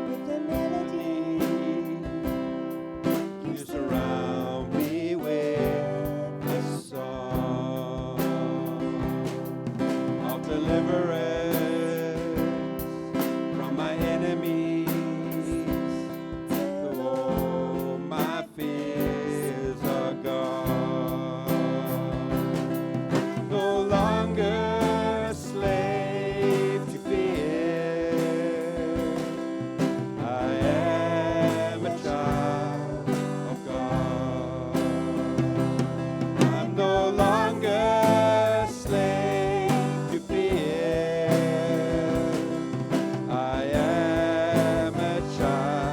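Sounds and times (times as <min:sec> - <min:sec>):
steady drum beat: 0:00.0 - 0:45.9
worship band playing: 0:00.0 - 0:45.9.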